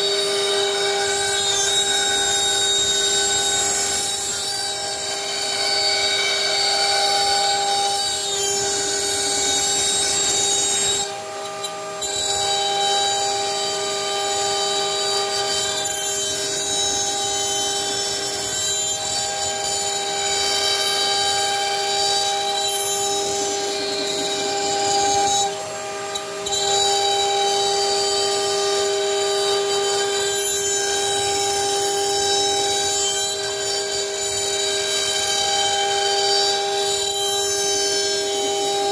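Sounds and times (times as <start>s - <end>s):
bit milling wood: 0.0s - 38.9s
cnc router spindle whine: 0.0s - 38.9s.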